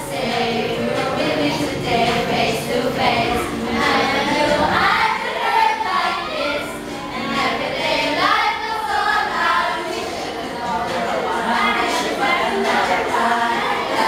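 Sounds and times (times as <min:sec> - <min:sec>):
group singing together: 0:00.0 - 0:14.0.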